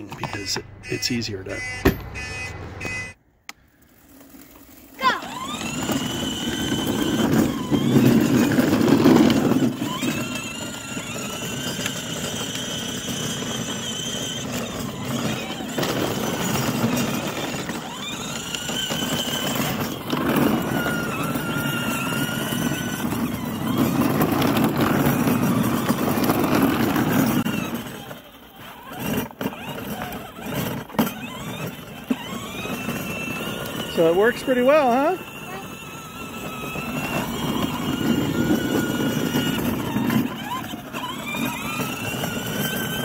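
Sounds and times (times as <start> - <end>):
electric motor whining: 0.0 - 3.2, 3.8 - 43.0
plastic wheels rumbling on wet pavement: 3.7 - 43.0.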